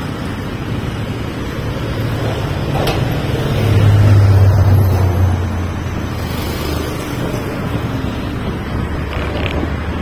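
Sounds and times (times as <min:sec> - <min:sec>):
bus engine rumble: 0:00.0 - 0:10.0
road traffic noise: 0:00.0 - 0:10.0.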